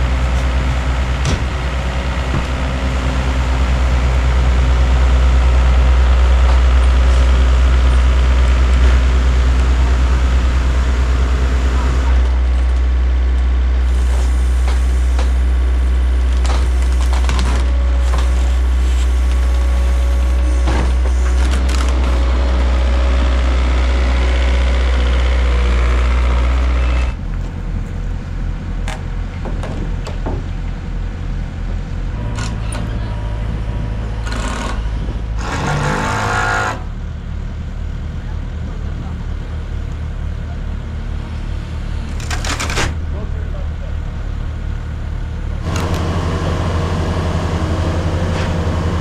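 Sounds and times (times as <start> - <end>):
diesel engine heavy drone: 0.0 - 49.0
engine idling: 0.0 - 49.0.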